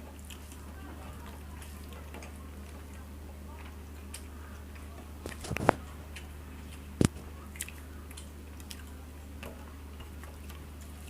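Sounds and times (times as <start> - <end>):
steady low hum: 0.0 - 11.0
wet chewing: 0.0 - 11.0.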